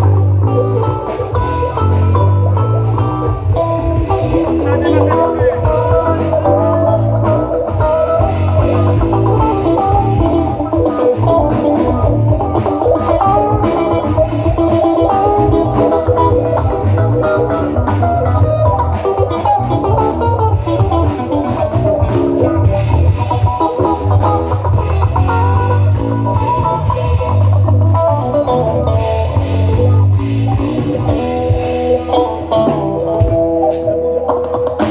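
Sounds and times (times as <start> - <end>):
bass guitar line: 0.0 - 34.9
electric guitar picked notes: 0.0 - 34.9.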